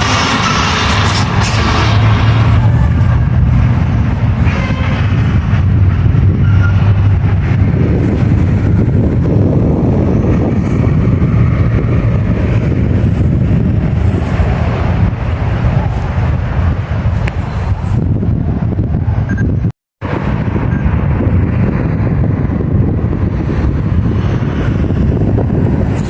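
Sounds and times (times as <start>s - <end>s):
train rumbling close by: 0.0s - 26.0s.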